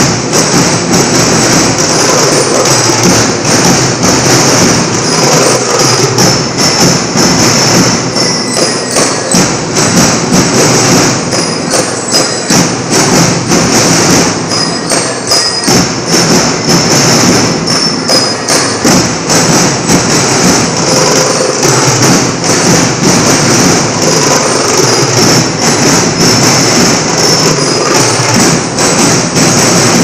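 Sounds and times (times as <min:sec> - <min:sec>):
drums beating march rhythm: 0:00.0 - 0:30.0
marching band playing: 0:00.0 - 0:30.0.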